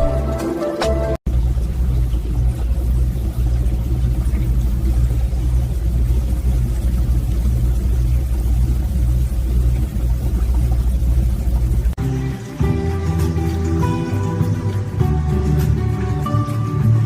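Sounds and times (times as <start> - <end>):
low pulsing rumble: 1.3 - 17.0.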